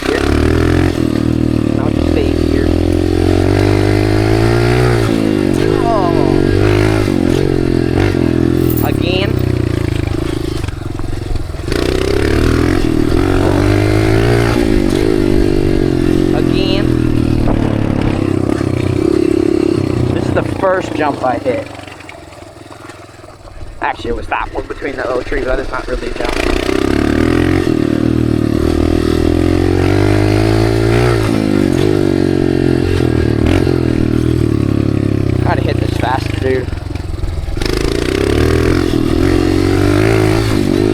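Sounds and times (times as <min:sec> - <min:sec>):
dirt bike engine: 0:00.0 - 0:40.9.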